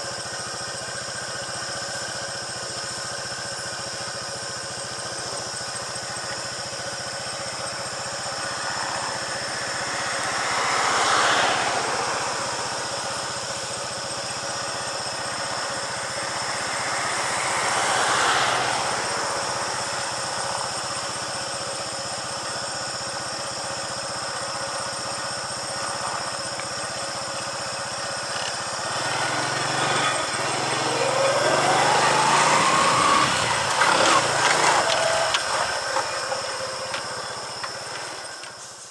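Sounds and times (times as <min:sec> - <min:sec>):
vehicle engine idling: 0:00.0 - 0:38.9
vehicles passing by: 0:04.7 - 0:38.9.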